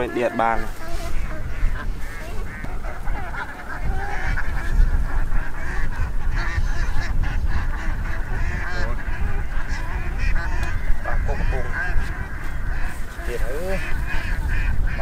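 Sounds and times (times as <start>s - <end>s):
waterfowl honking: 0.0s - 15.0s.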